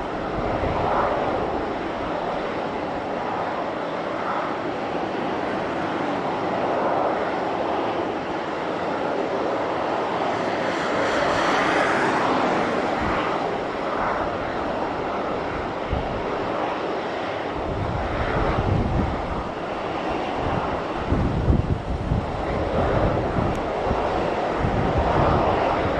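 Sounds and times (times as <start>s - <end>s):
jet engine roar: 0.0s - 25.9s
wind buffeting microphone: 0.0s - 25.9s.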